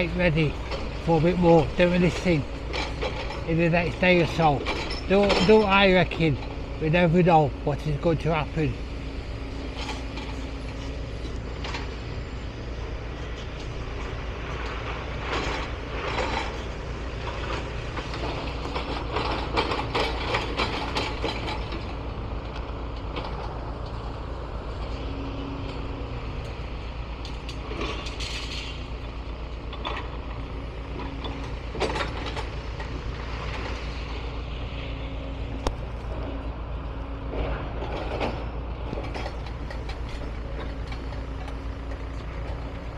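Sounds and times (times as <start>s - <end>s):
diesel engine rumble: 0.0s - 42.9s.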